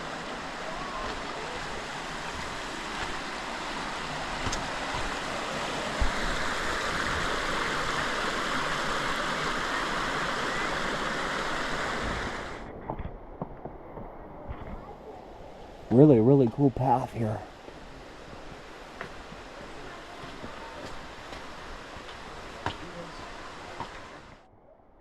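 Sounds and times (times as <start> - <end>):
stream water rushing: 0.0 - 12.7, 15.1 - 24.4.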